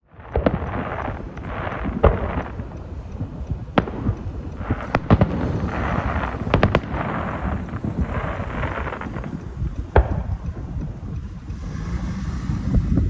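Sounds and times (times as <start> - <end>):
fireworks bursting with bangs: 0.0 - 13.0
fireworks crackling: 0.0 - 13.0.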